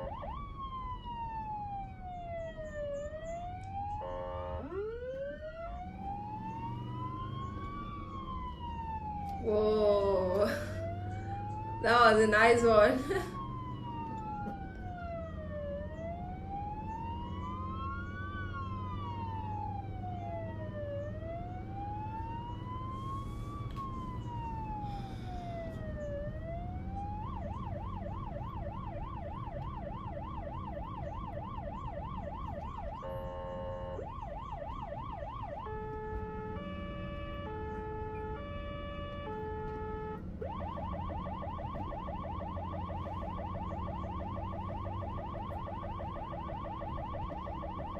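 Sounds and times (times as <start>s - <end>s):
emergency vehicle siren: 0.0s - 47.9s.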